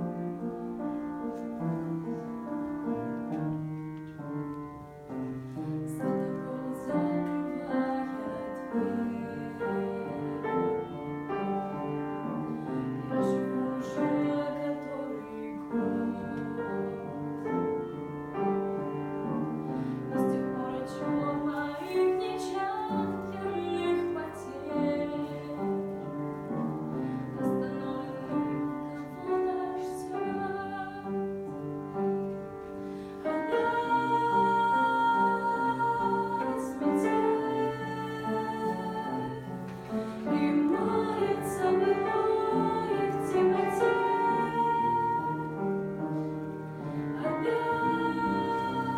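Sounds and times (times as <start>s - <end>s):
piano playing: 0.0s - 48.9s.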